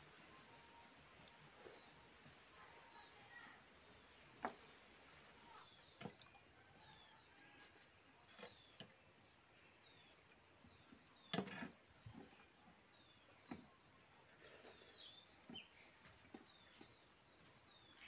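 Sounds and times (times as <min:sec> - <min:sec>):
birds chirping: 0:00.1 - 0:07.4, 0:08.1 - 0:18.0.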